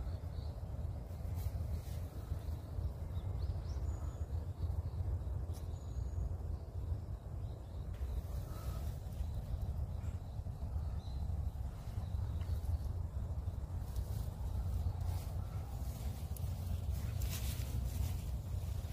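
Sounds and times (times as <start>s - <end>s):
faint bird chirps: 0.0s - 18.9s
low rumble: 0.0s - 18.9s.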